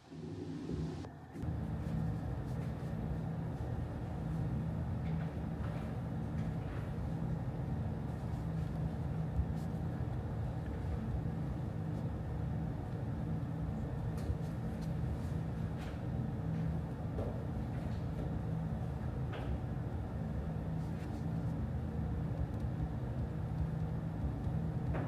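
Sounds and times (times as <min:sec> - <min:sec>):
low office hum: 0:00.0 - 0:25.0.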